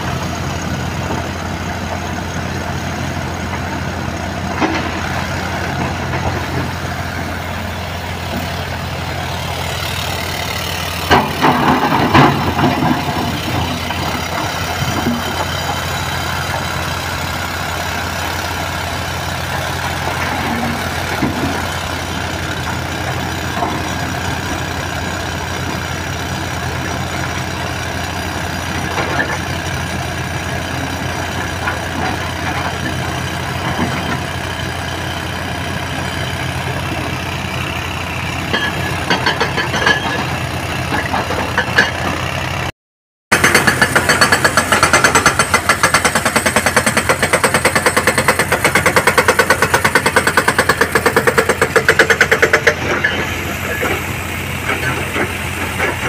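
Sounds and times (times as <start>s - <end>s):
diesel engine idling: 0.0s - 42.7s, 43.3s - 56.0s
engine knocks: 0.0s - 42.7s, 43.3s - 56.0s
loud pulsing engine: 0.0s - 42.7s, 43.3s - 56.0s.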